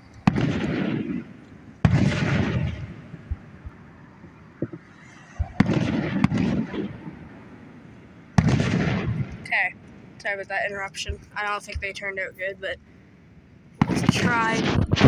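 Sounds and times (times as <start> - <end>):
fireworks exploding: 0.0 - 7.7, 8.3 - 12.0, 13.8 - 15.0.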